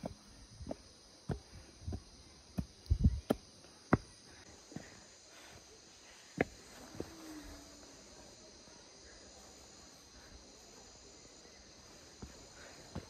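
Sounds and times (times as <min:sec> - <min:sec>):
insect drone: 0:00.0 - 0:13.0.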